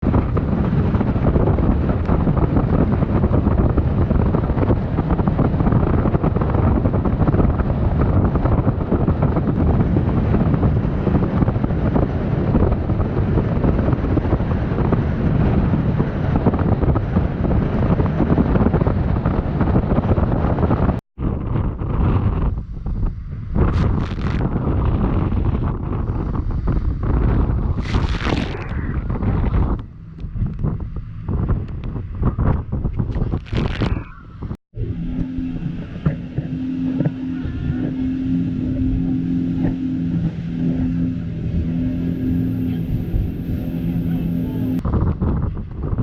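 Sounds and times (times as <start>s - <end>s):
water churning against hull: 0.0s - 46.0s
wind buffeting microphone: 0.0s - 46.0s.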